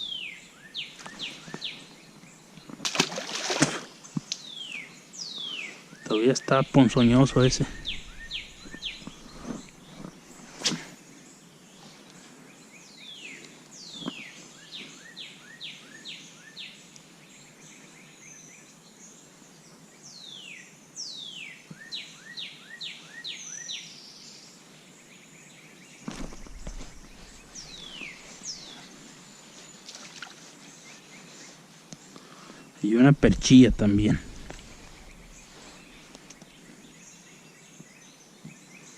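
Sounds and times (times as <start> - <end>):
outdoor background hiss: 0.0 - 38.9
songbird singing: 0.0 - 38.9.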